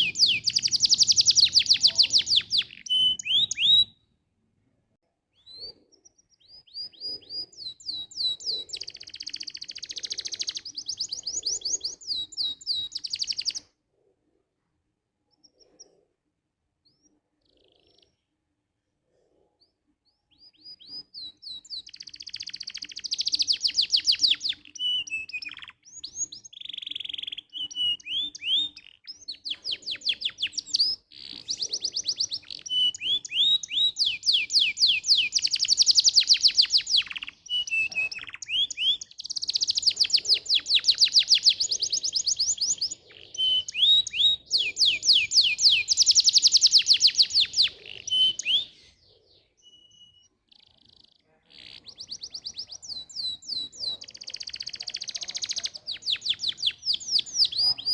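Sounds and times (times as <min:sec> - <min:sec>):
canary singing trills: 0:00.0 - 0:04.1, 0:05.3 - 0:13.8, 0:16.8 - 0:18.4, 0:19.6 - 0:57.9.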